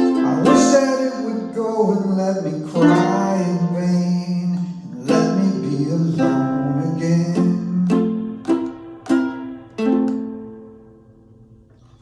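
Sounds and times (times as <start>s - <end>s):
ukulele strummed: 0.0s - 12.0s.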